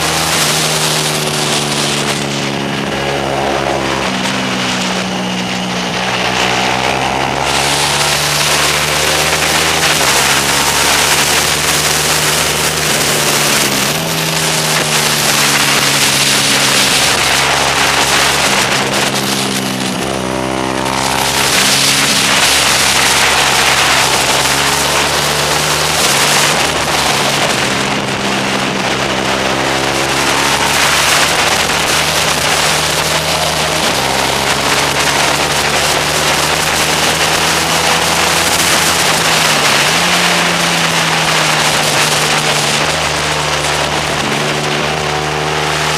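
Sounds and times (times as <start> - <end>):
motorcycle engine revving: 0.0 - 45.9
wind rushing over microphone: 0.0 - 45.9.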